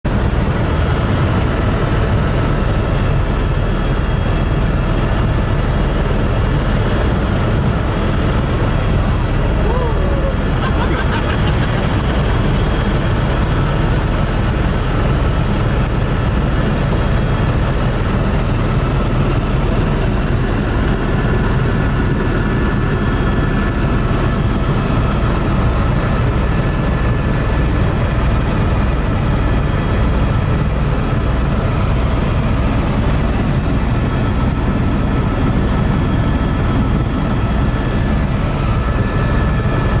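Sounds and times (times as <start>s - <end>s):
helicopter engine and rotor: 0.0s - 40.0s
thin steady whines: 0.1s - 40.0s.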